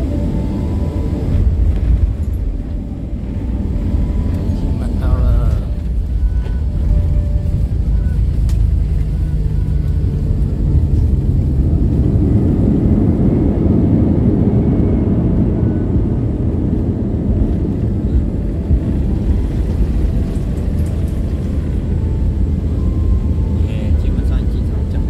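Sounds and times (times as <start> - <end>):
aircraft cabin rumble on runway: 0.0 - 25.0
jet engine noise: 0.0 - 25.0.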